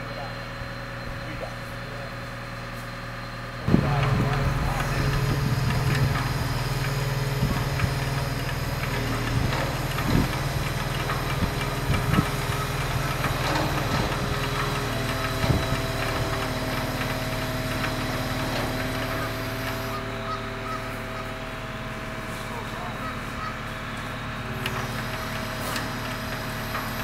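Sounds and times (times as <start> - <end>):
diesel engine running: 0.0 - 27.0
high steady whine: 0.0 - 27.0.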